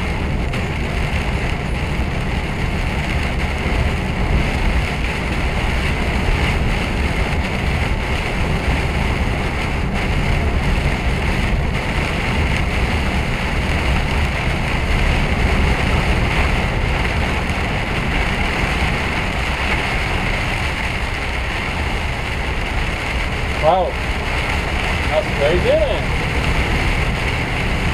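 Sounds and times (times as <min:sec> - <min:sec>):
lorry engine hum: 0:00.0 - 0:27.9
tyres and wind hiss: 0:00.0 - 0:27.9.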